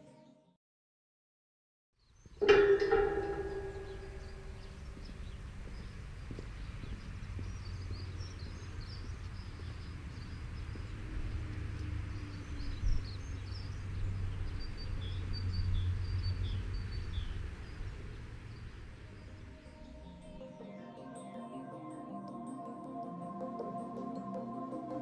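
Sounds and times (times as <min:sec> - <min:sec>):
small birds chirping: 0:02.0 - 0:22.0.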